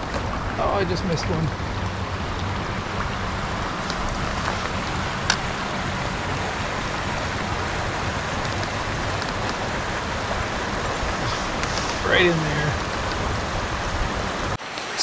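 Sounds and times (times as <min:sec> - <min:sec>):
water rushing into river: 0:00.0 - 0:15.0.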